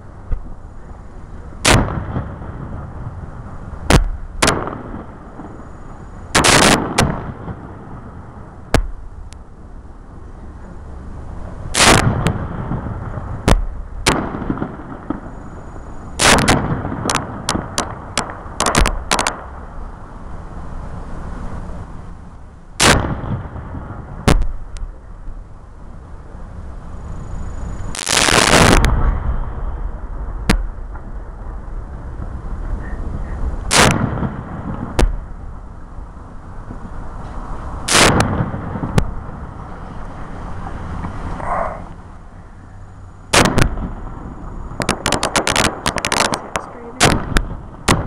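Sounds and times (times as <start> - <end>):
fireworks bursting: 0.0 - 25.0, 26.2 - 48.0
low background noise: 0.0 - 48.0.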